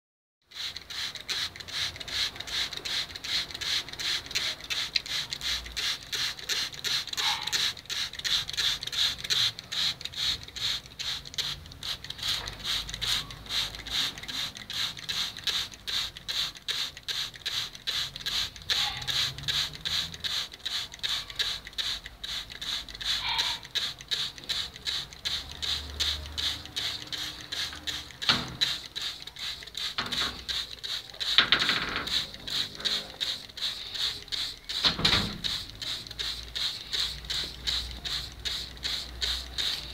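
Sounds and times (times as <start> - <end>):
spray bottle squirting: 0.5 - 39.9.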